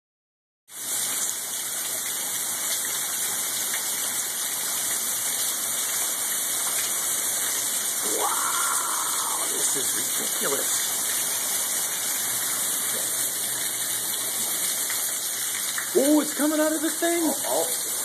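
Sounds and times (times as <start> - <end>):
water pouring and splashing: 0.7 - 18.0.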